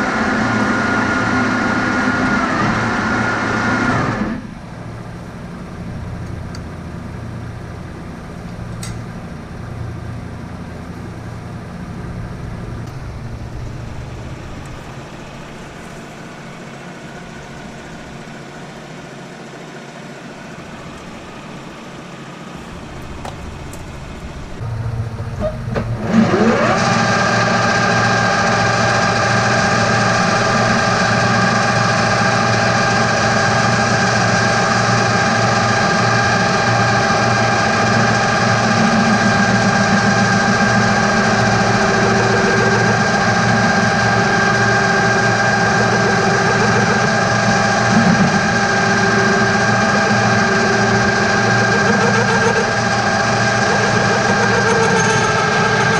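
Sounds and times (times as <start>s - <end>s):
lathe spinning up whine: 0.0s - 55.9s
metal lathe humming: 0.0s - 55.9s.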